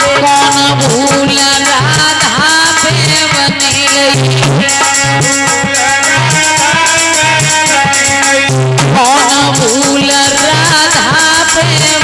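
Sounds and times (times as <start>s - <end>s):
hand drum beating: 0.0s - 12.0s.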